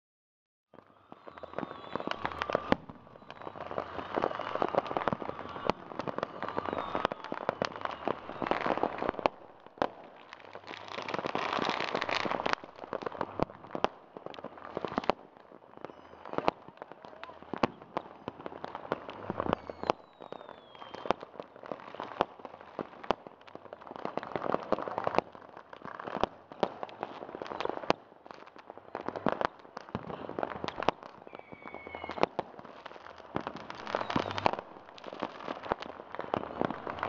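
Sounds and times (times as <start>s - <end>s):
fireworks bangs and crackling: 0.7s - 37.0s.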